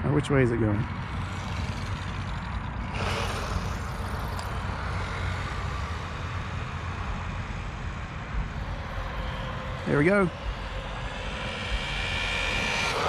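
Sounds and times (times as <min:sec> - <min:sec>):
electric motor whining: 0:00.8 - 0:13.0
low rumble: 0:00.8 - 0:13.0.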